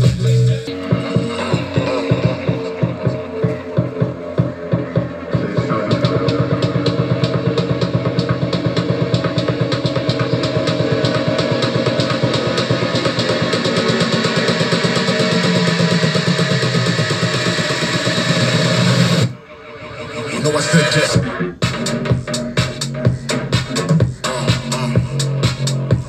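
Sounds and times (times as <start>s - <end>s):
music with drum beat and heavy bass: 0.0s - 26.0s.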